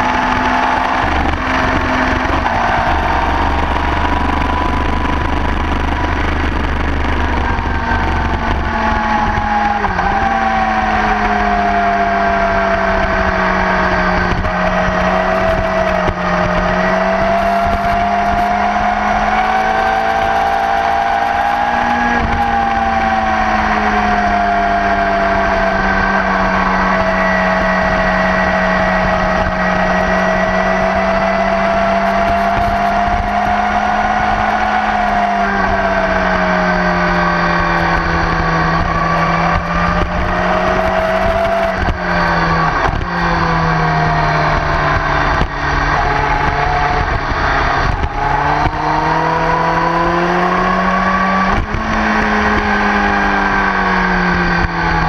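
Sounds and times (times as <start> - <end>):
motorcycle engine running hard: 0.0 - 55.0.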